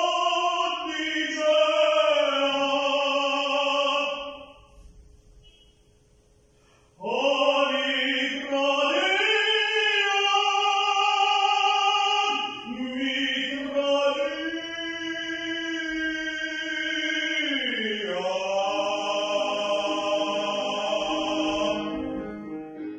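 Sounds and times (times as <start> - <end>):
wordless choir-like singing: 0.0 - 4.5, 7.0 - 22.5.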